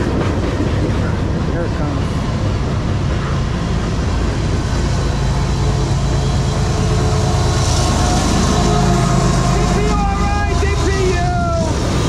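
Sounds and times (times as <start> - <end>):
diesel locomotive engine drone: 0.0 - 12.0
freight cars rumbling on rails: 0.0 - 12.0.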